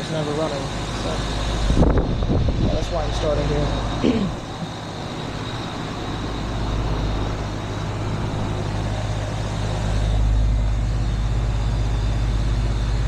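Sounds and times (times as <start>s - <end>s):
compressor hum: 0.0s - 13.0s
fan rushing: 0.0s - 13.0s.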